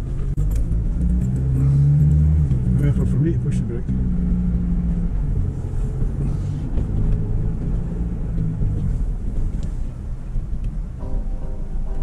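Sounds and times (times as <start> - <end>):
van engine drone: 0.0 - 12.0.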